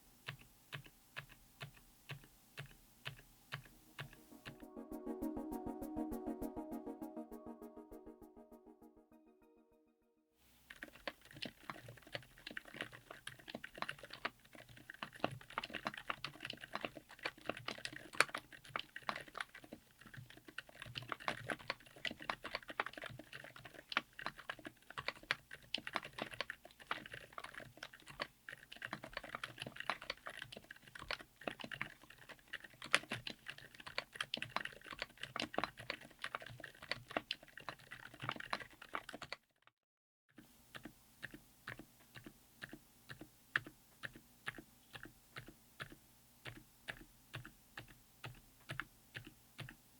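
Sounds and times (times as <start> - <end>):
fast typing on mechanical keyboard: 0.3 - 4.6, 10.6 - 39.5, 40.7 - 49.8.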